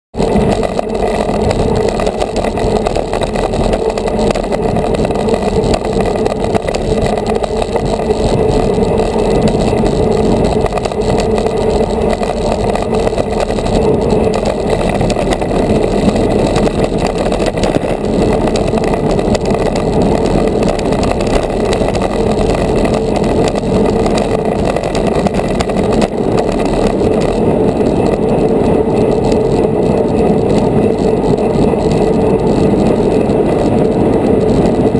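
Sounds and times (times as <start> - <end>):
wind rush over microphone: 0.1 - 34.9.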